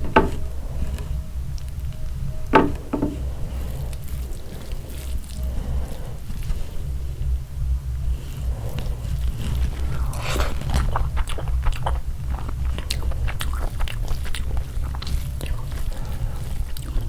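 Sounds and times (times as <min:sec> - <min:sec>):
person chewing crunchy food: 0:00.0 - 0:17.0
steady low hum: 0:00.0 - 0:17.0.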